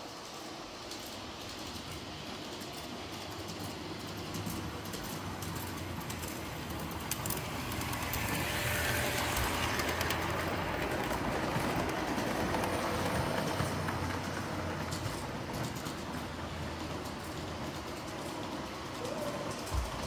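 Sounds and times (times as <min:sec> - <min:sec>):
model train wheels rumbling on rails: 0:00.0 - 0:20.0.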